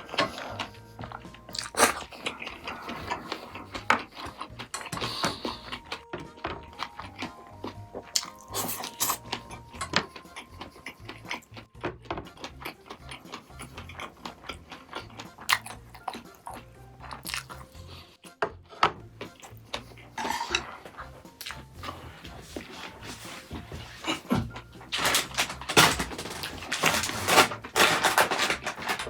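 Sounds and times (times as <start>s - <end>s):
chewing and biting food: 0.0s - 25.6s
light background music: 0.0s - 29.0s.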